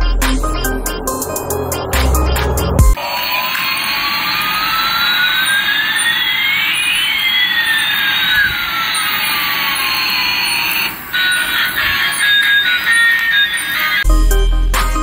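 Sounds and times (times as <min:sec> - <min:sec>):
toy jet engine sound effect: 0:00.0 - 0:14.0.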